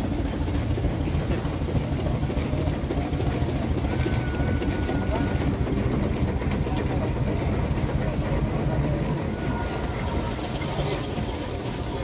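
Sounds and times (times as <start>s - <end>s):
traction engine rumbling on gravel: 0.0s - 12.0s.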